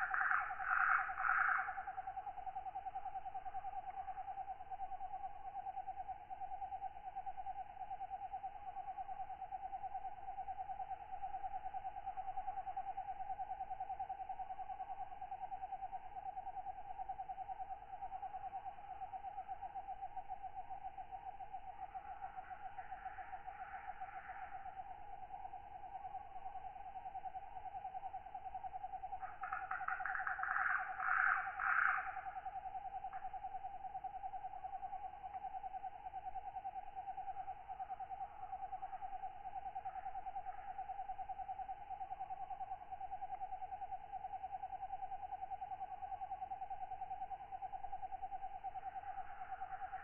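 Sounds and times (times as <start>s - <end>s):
insects trilling: 0.0s - 50.0s
rasping insect calls: 0.0s - 50.0s.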